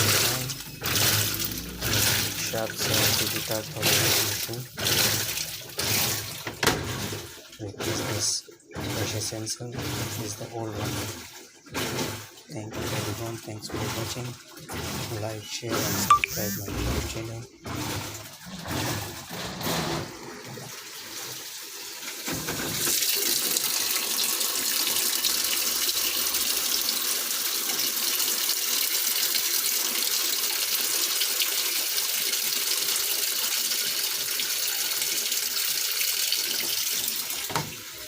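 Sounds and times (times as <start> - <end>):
water pouring into washing machine: 0.0 - 38.0.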